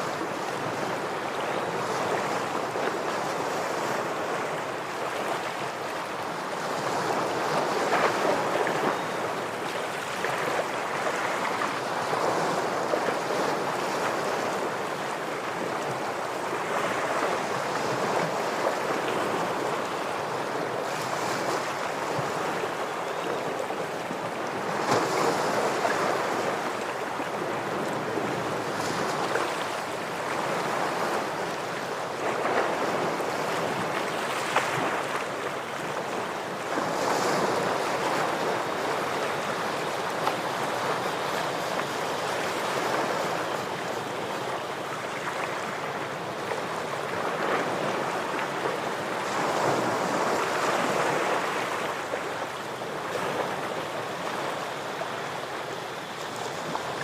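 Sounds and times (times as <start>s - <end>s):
ocean surf on rocks: 0.0s - 57.0s.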